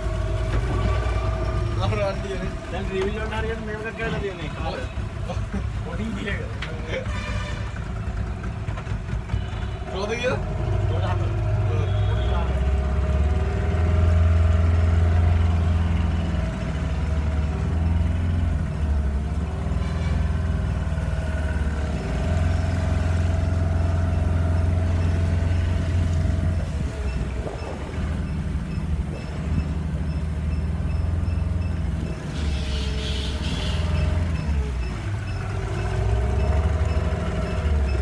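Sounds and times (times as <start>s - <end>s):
boat engine droning: 0.0s - 6.2s, 6.9s - 38.0s.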